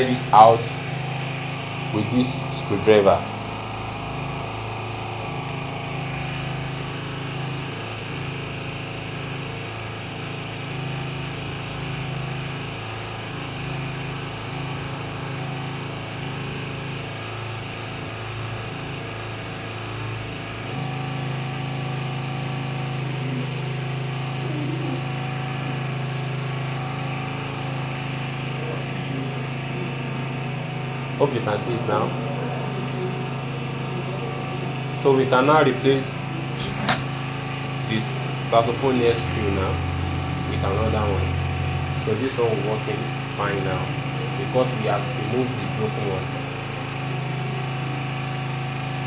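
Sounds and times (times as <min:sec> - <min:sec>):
low mechanical motor hum: 0:00.0 - 0:49.0.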